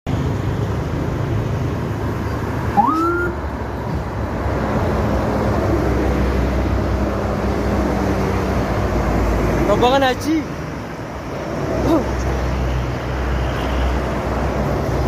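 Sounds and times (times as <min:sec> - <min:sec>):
vehicle engines running: 0:00.1 - 0:15.0.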